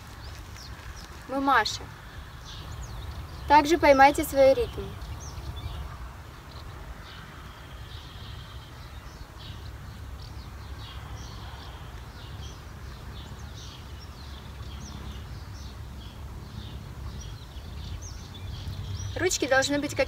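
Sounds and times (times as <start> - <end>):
wind on microphone rumble: 0.0 - 19.2
small birds chirping: 0.0 - 20.0.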